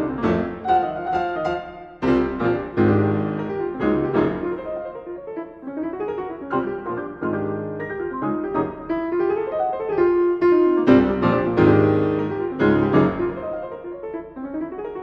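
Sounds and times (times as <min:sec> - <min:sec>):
jazz piano duet: 0:00.0 - 0:15.0.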